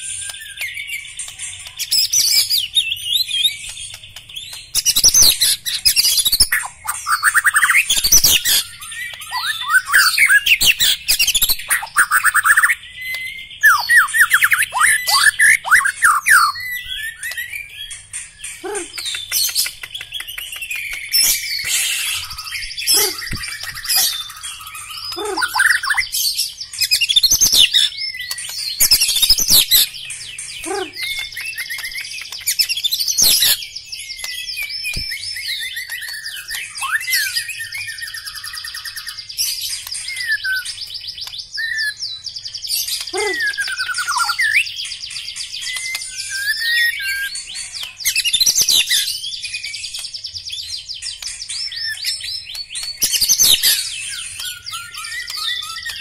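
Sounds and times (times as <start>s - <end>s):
bird singing trills and whistles: 0.0s - 56.0s.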